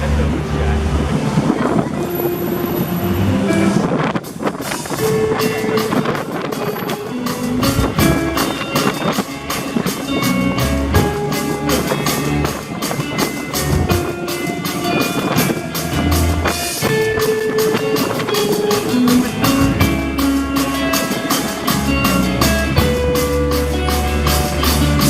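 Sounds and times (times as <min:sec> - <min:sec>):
live band music: 0:00.0 - 0:25.0
drum beat with cymbals: 0:04.1 - 0:25.0.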